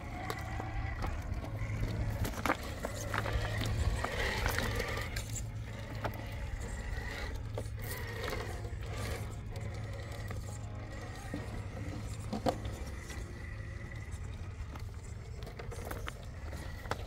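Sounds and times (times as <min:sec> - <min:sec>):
electric motors whining: 0:00.0 - 0:17.0
tires scraping on rock: 0:00.0 - 0:17.0.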